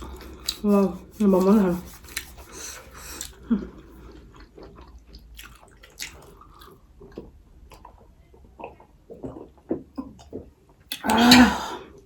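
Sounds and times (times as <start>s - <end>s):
chewing and mouth sounds: 0.0s - 1.1s, 1.9s - 11.3s.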